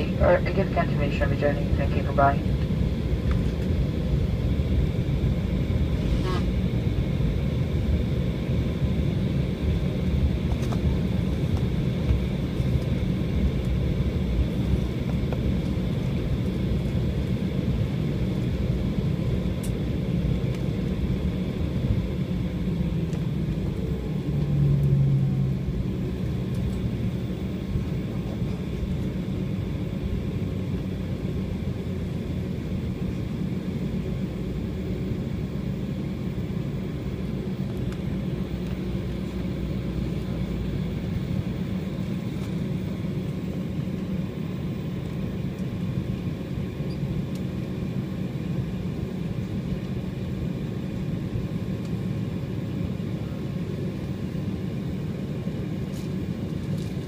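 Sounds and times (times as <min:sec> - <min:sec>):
low hum: 0:00.0 - 0:48.7
airliner engines idling: 0:00.0 - 0:57.0.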